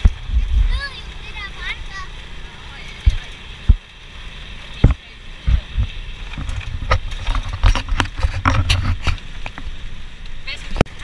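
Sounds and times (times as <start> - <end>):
low thumps and rumble: 0.0 - 11.0.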